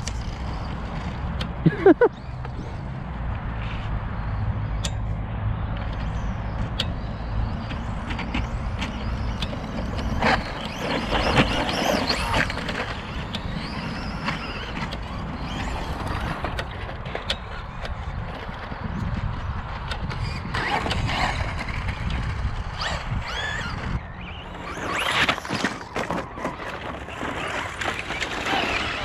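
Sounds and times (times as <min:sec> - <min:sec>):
electric motors whining: 0:00.0 - 0:29.0.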